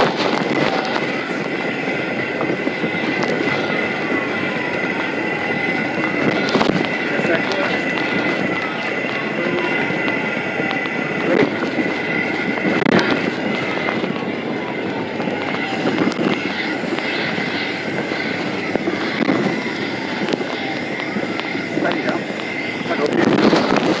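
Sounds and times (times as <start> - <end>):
faint steady whine: 0.0 - 24.0
road and cabin noise: 0.0 - 24.0.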